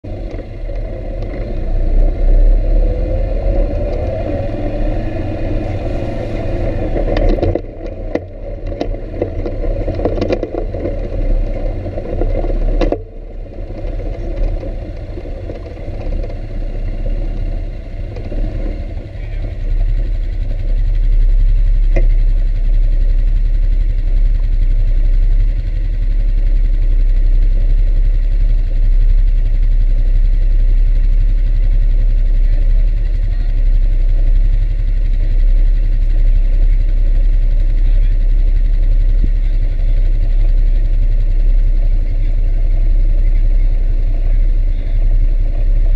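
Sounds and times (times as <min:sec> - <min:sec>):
atv engine revving: 0:00.0 - 0:45.9
low rumble on microphone: 0:00.0 - 0:45.9.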